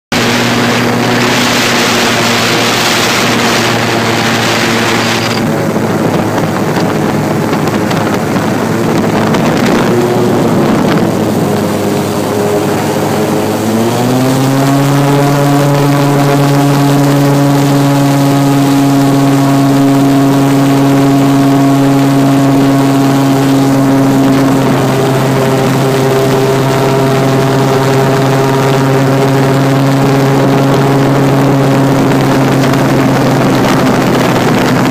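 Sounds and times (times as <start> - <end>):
airboat engine and propeller: 0.0 - 34.9.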